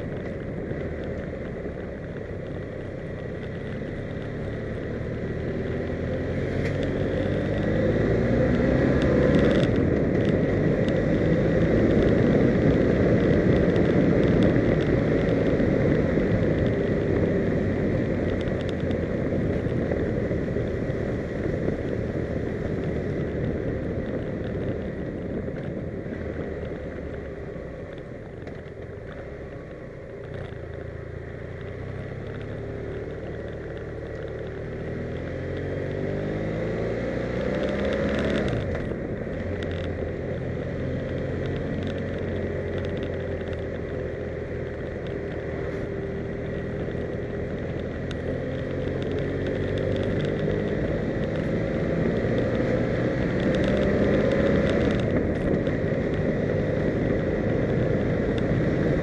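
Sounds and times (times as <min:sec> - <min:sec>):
vehicle engine accelerating: 0:00.0 - 0:59.0
wind rumble on microphone: 0:00.0 - 0:59.0.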